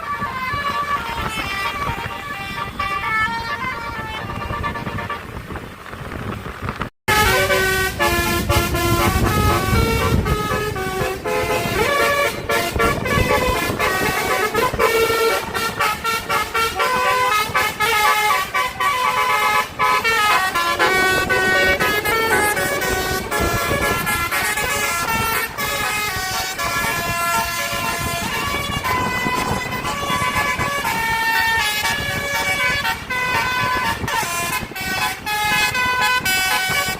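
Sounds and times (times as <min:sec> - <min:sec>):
bus horn playing a tune: 0:00.0 - 0:05.8, 0:07.1 - 0:36.9
low vehicle rumble: 0:00.0 - 0:36.9.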